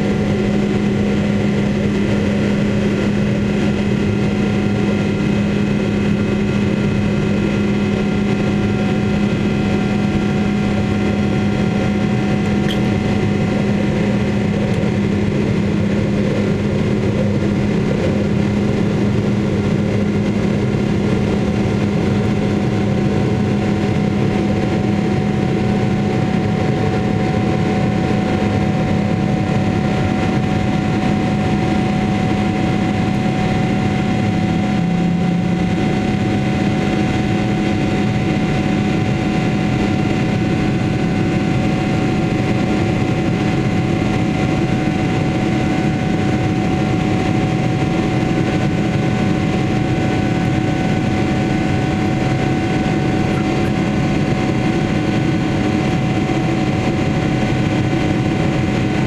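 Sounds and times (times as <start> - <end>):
jet engine and rushing air: 0.0 - 59.0
steady hums: 0.0 - 59.0.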